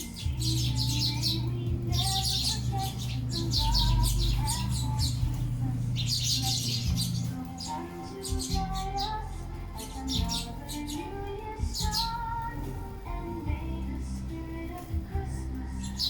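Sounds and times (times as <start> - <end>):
faint melody: 0.0 - 16.0
sparrows chirping: 0.0 - 16.0
steady low hum: 0.0 - 16.0.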